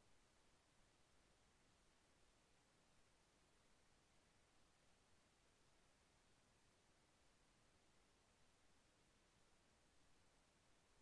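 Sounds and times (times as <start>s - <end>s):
faint even hiss: 0.0s - 11.0s.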